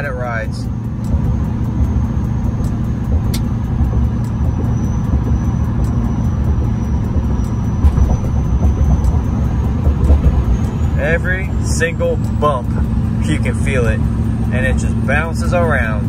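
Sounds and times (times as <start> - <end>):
low rumble of road and engine: 0.0 - 16.0.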